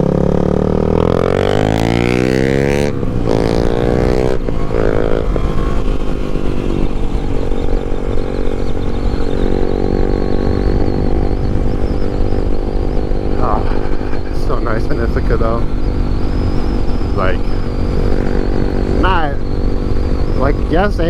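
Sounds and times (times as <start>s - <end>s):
motorcycle engine accelerating: 0.0s - 21.0s
wind rumble: 0.0s - 21.0s.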